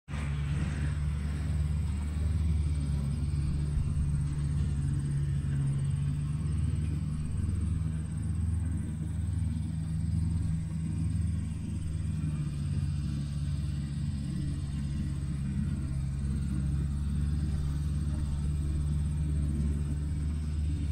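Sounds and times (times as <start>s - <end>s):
diesel engine droning: 0.1s - 20.9s.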